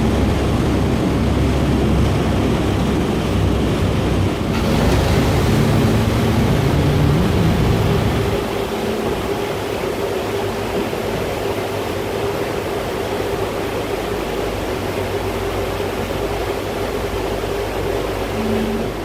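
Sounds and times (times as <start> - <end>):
ferry engine drone: 0.0 - 19.0
water and air rushing: 0.0 - 19.0.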